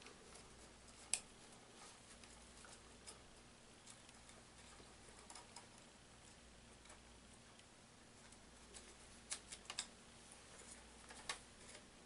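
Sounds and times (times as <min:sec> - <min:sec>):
faint clicks and rustles: 0:00.0 - 0:12.0.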